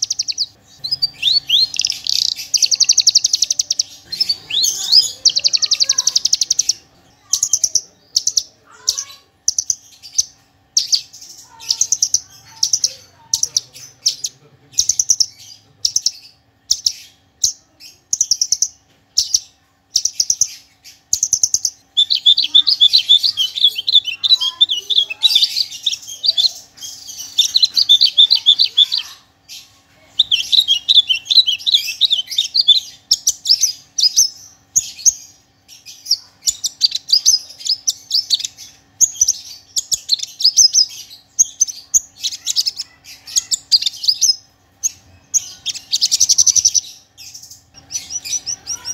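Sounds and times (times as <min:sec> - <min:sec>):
bird singing trilled phrases: 0:00.0 - 0:48.9.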